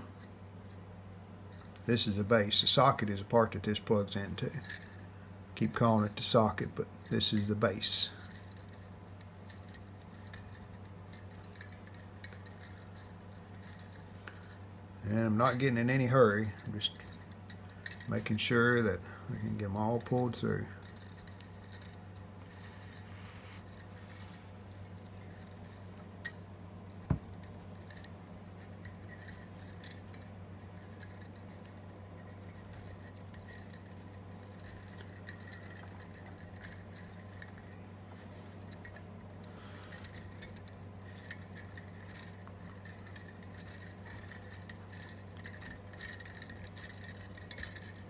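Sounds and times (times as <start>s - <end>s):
steady low hum: 0.0s - 48.0s
wires scraping through plastic: 4.0s - 48.0s.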